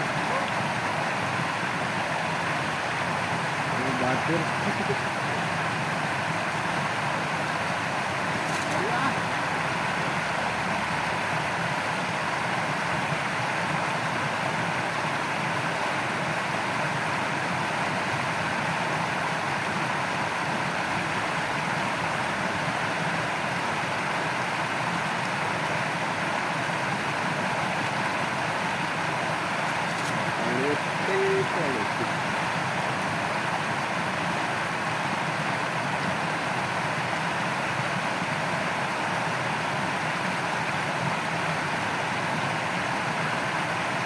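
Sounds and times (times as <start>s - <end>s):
shallow stream flowing: 0.0s - 44.0s.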